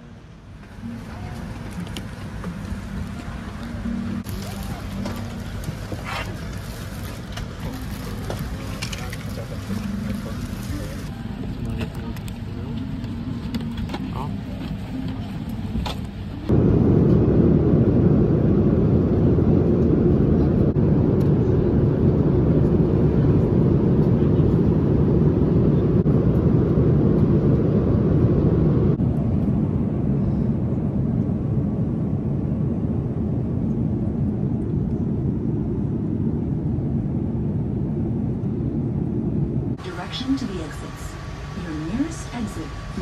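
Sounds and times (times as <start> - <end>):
airliner cabin rumble: 0.0 - 43.0.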